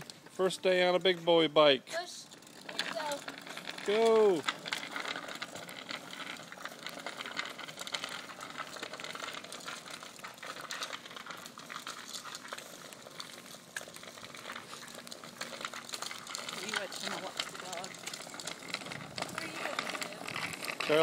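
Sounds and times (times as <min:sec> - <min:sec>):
bicycle wheels rattling on pavement: 0:00.0 - 0:21.0.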